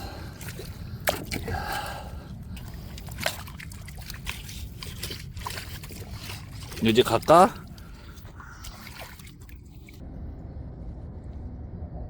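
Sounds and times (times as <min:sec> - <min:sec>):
mud squelching and sloshing: 0:00.0 - 0:10.0.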